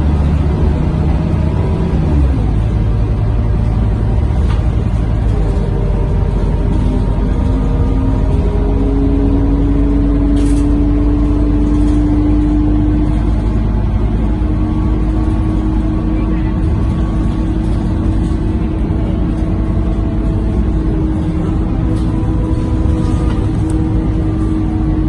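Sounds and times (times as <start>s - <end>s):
bus diesel engine drone: 0.0s - 25.0s
constant whine: 0.0s - 25.0s.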